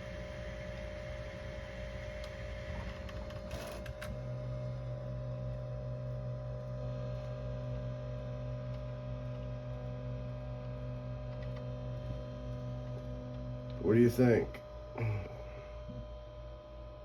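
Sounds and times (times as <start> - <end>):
printer motors and fans running: 0.0 - 17.0
steady low hum: 0.0 - 17.0.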